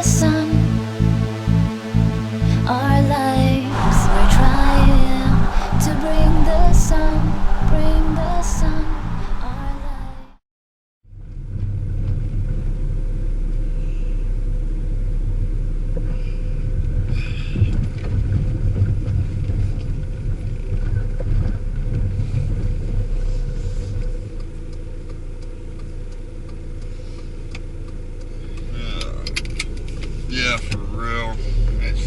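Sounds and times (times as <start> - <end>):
road rumble: 3.3 - 10.4, 11.8 - 32.0.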